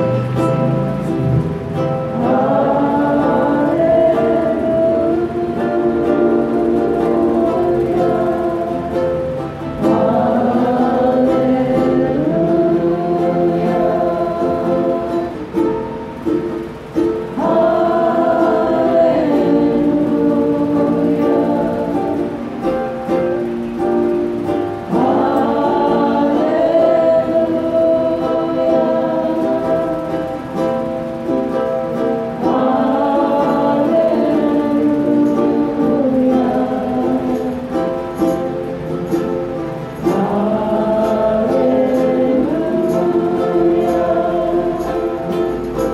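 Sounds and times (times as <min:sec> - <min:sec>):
group singing a hymn: 0:00.0 - 0:45.9
strummed guitar: 0:00.0 - 0:45.9.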